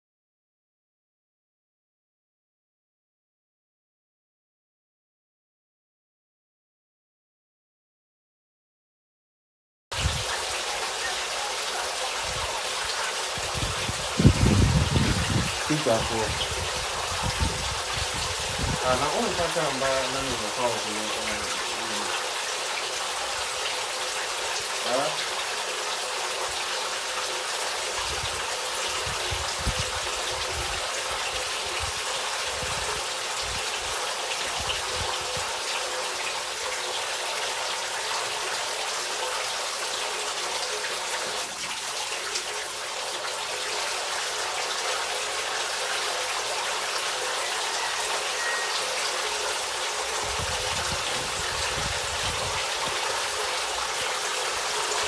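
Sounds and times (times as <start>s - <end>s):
water splashing and trickling: 9.9s - 55.0s.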